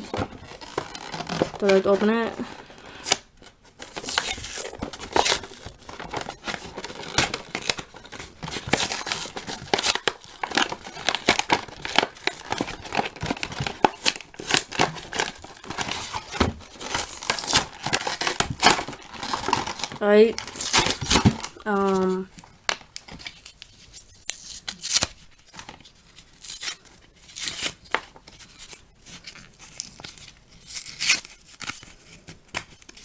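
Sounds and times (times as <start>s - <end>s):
packaging being torn open: 2.7s - 33.0s.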